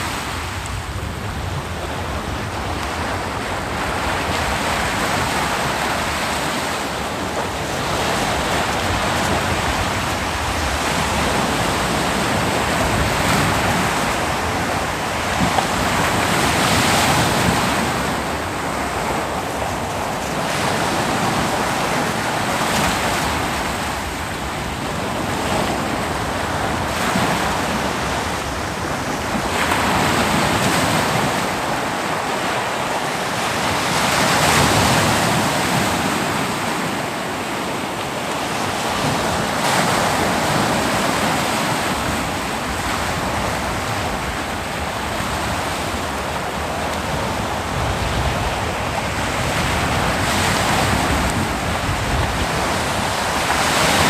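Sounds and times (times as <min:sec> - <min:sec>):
ocean surf breaking: 0:00.0 - 0:54.0
wind noise on microphone: 0:00.0 - 0:54.0.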